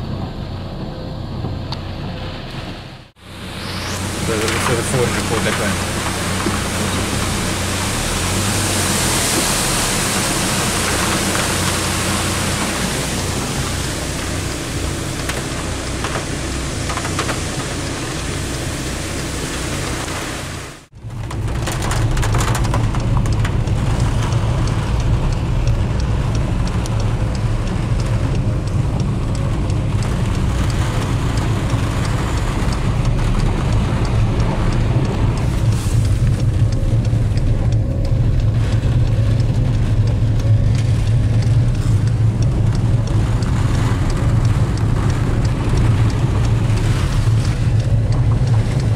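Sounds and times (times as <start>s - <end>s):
car rumbling on wet road: 0.0s - 48.9s
rain: 0.0s - 48.9s
floodwater rushing over road: 3.2s - 48.9s
rain ticking on car: 3.2s - 48.9s.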